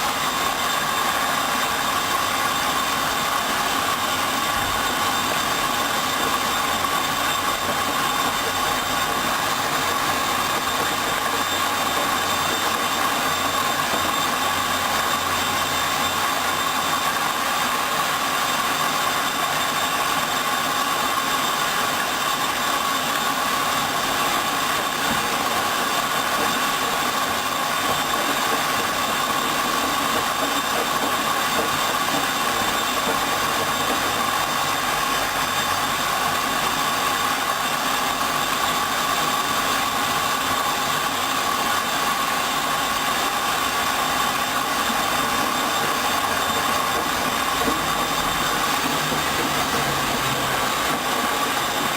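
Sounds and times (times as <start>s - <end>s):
washing machine hum and hiss: 0.0s - 51.9s.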